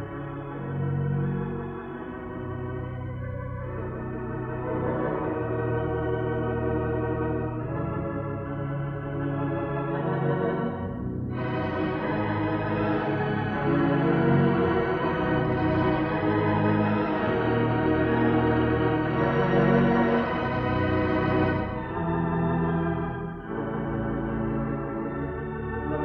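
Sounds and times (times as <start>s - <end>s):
pipe organ playing chords: 0.0s - 26.0s.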